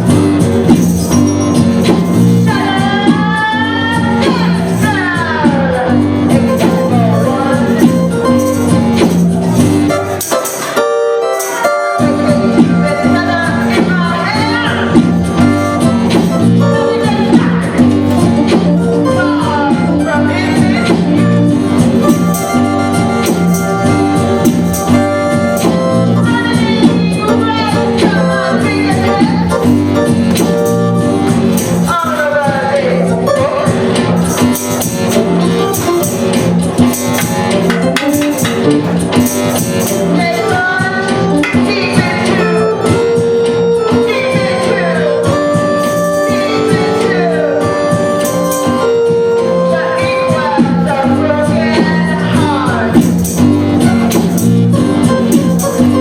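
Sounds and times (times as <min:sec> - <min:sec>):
live band playing: 0:00.0 - 0:56.0
person singing: 0:01.6 - 0:36.4, 0:37.0 - 0:56.0.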